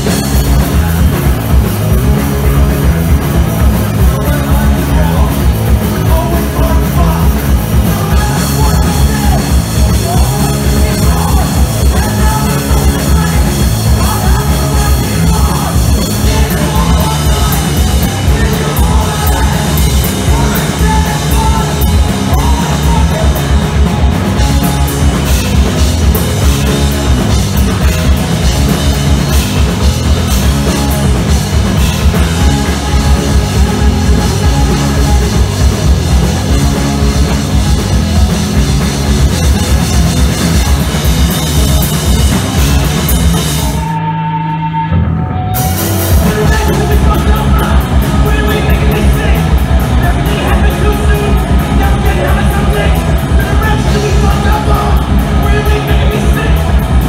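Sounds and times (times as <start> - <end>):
drums and cymbals: 0.0 - 44.2, 45.4 - 57.0
punk rock band playing live: 0.0 - 57.0.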